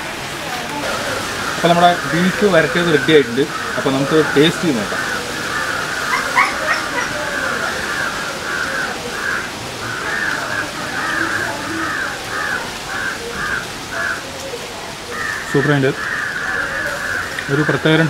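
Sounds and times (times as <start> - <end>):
bird calling: 0.8 - 18.0.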